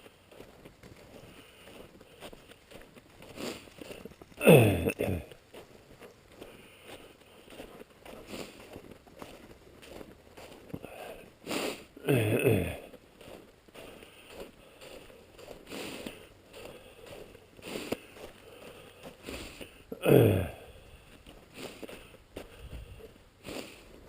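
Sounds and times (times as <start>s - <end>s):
footsteps crunching on icy snow: 0.0s - 24.0s.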